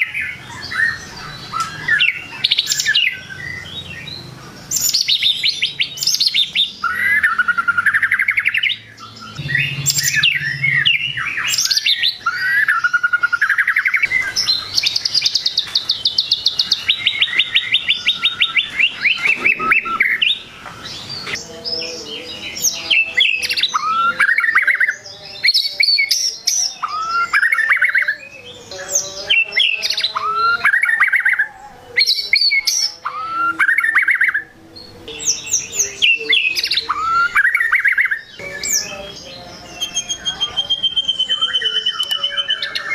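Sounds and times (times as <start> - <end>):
songbird singing whistled phrases: 0.0 - 42.9.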